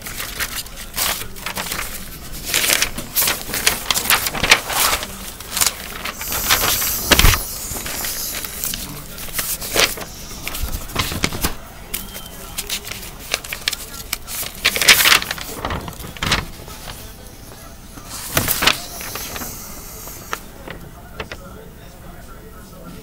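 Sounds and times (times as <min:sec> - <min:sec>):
drawing paper rustling: 0:00.0 - 0:21.7.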